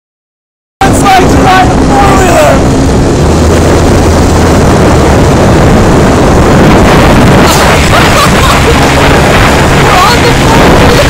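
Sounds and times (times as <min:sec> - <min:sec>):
wind buffeting microphone: 0:00.8 - 0:11.0
atv engine humming: 0:00.9 - 0:11.0.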